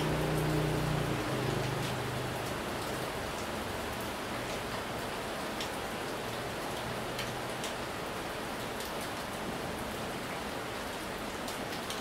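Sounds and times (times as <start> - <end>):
heavy rain on a tiled porch: 0.0 - 12.0
raindrops tapping close by: 0.0 - 12.0.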